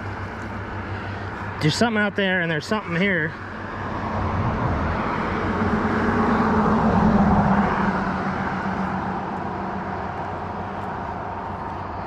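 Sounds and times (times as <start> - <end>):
passing engine hum: 0.0 - 12.0.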